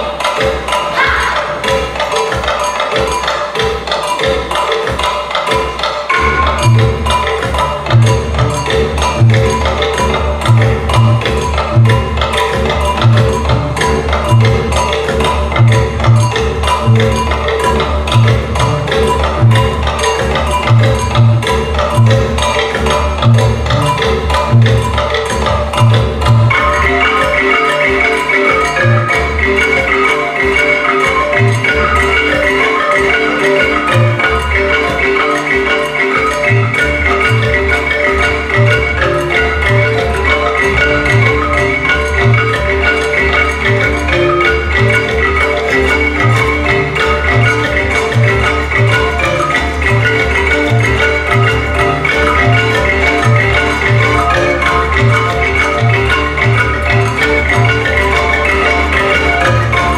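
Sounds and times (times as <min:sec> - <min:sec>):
dance music with mallet percussion: 0:00.0 - 0:59.9.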